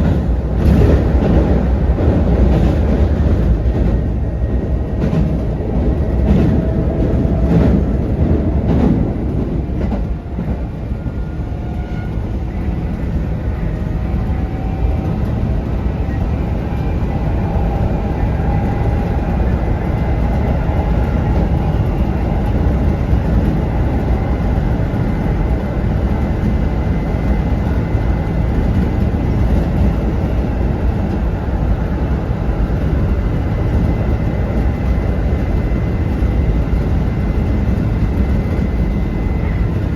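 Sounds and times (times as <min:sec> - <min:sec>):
electric train running: 0:00.0 - 0:39.9.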